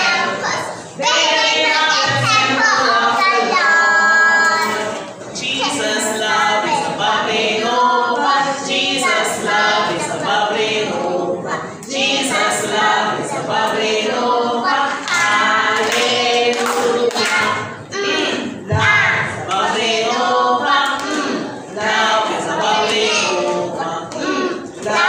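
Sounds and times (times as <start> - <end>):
children singing: 0.0 - 25.0.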